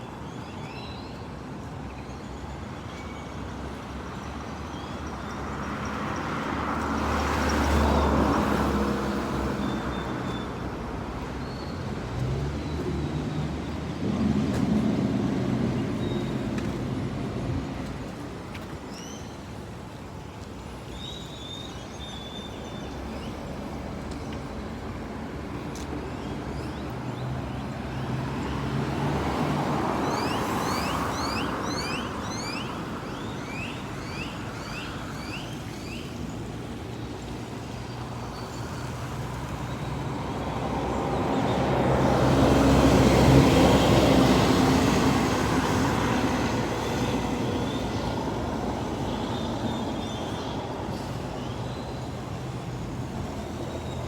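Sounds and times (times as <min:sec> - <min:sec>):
road traffic: 0:00.0 - 0:54.0
vehicles passing: 0:03.4 - 0:54.0.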